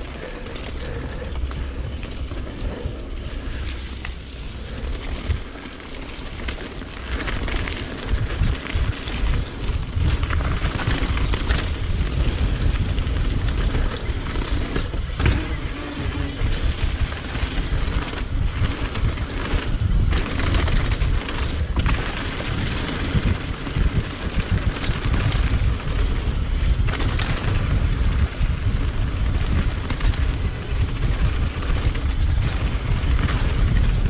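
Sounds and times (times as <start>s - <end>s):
bike knocking and rattling: 0.0s - 34.0s
tyres on dirt and rock: 0.0s - 34.0s
wind on microphone: 0.0s - 34.0s.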